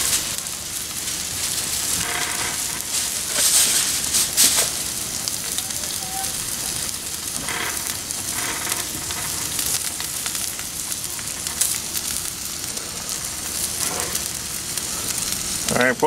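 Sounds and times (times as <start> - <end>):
steak sizzling on griddle: 0.0 - 16.0.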